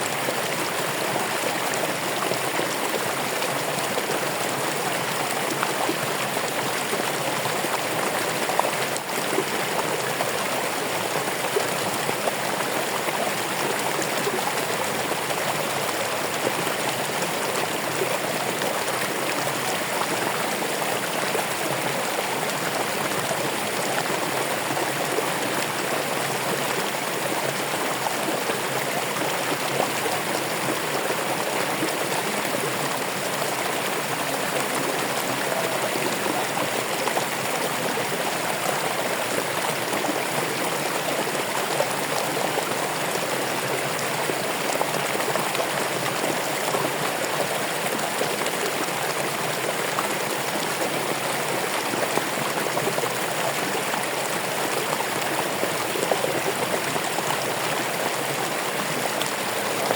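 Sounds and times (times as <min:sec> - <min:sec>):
stream water rushing and splashing: 0:00.0 - 0:59.9.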